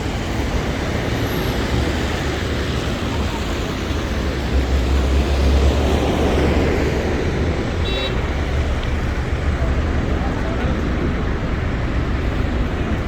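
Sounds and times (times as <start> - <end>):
traffic hiss on wet street: 0.0 - 13.0
vehicle engine rumble: 0.0 - 13.0.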